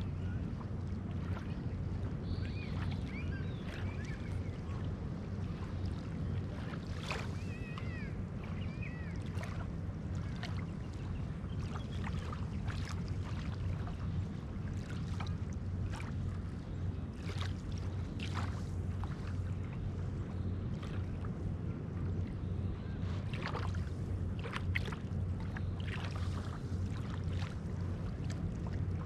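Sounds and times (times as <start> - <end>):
small waves lapping on shore: 0.0 - 29.0
steady low rumble: 0.0 - 29.0.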